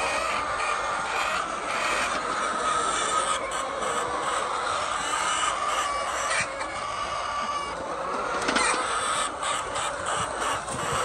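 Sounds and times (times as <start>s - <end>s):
flock of hens clucking: 0.0s - 11.0s.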